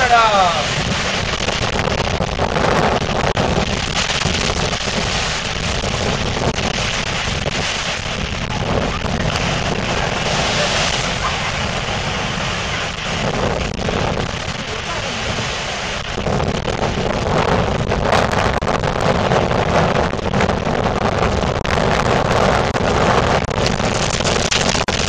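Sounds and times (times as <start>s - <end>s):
sea surf: 0.0s - 25.0s
wind buffeting microphone: 0.0s - 25.0s.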